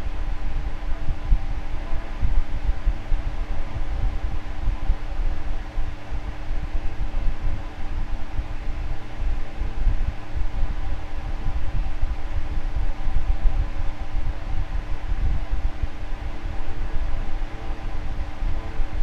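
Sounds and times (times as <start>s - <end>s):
fan running: 0.0s - 19.0s.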